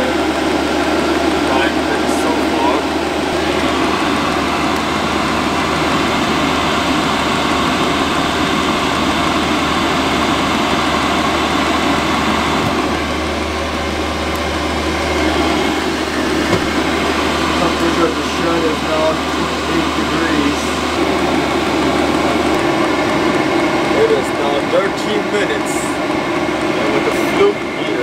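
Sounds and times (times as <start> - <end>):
heater blower whoosh: 0.0 - 28.0.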